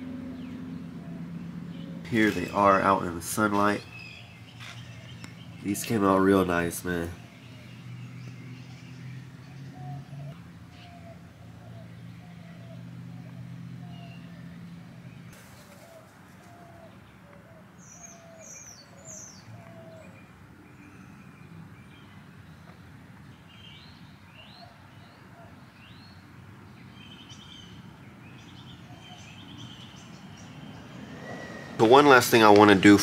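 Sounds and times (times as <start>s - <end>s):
low repeated bird call: 0.0s - 22.7s, 23.4s - 33.0s
faint songbirds chirping: 0.0s - 33.0s.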